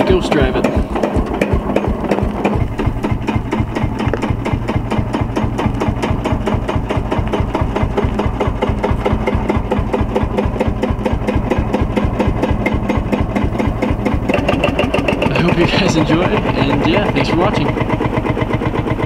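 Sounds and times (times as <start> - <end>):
diesel tractor engine running: 0.0 - 19.0.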